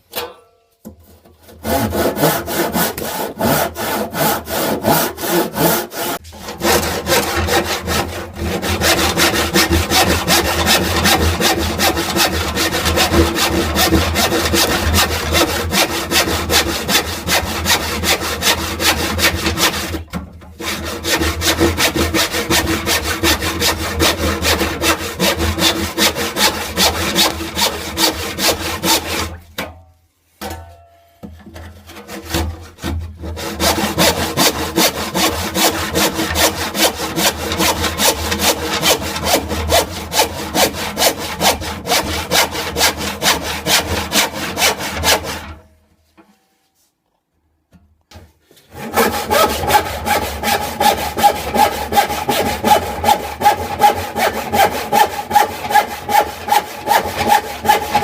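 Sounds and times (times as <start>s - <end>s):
hand saw cutting wood: 0.9s - 29.4s, 31.6s - 45.6s, 48.6s - 58.0s.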